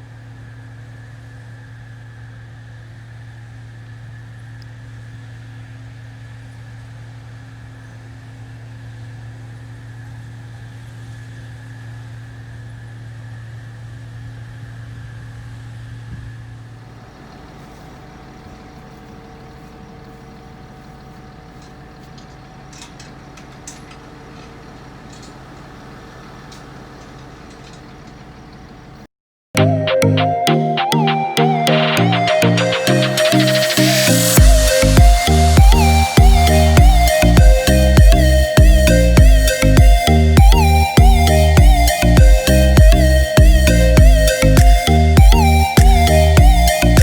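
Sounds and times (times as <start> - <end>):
combine harvester droning: 0.0 - 29.0, 29.6 - 47.0.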